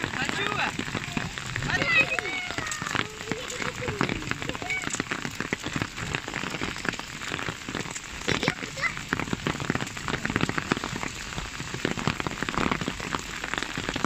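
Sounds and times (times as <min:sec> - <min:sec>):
hail pattering on ground: 0:00.0 - 0:14.0.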